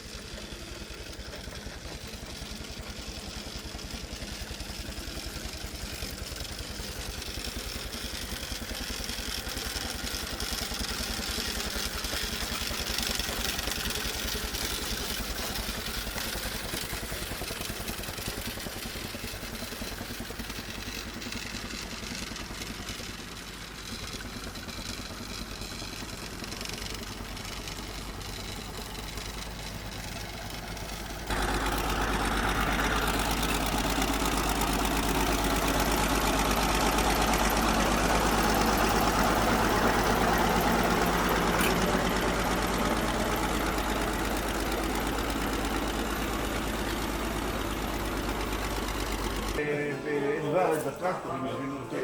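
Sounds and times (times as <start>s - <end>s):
tractor engines idling: 0.0s - 52.0s.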